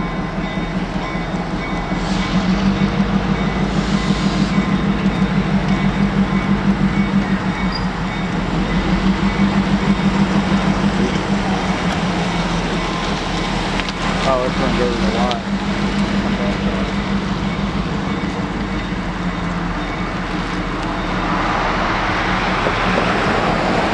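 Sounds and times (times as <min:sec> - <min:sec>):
diesel locomotive engine drone: 0:00.0 - 0:23.9.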